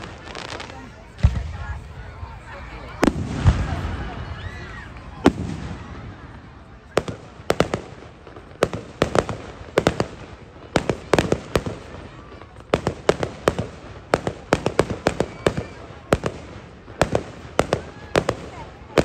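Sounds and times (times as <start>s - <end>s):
crowd murmur: 0.0s - 19.0s
fireworks bangs: 0.0s - 19.0s.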